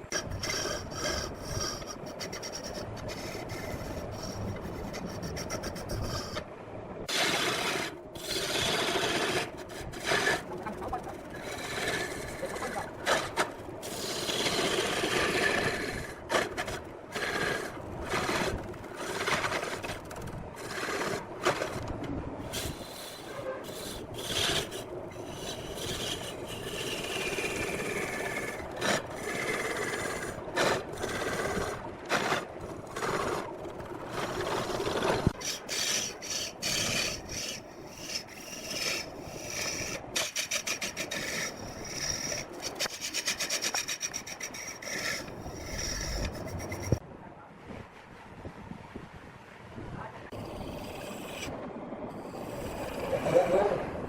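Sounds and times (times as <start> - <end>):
wood scraping on a lathe: 0.0 - 6.4, 7.1 - 47.0, 50.3 - 51.5, 52.2 - 53.8.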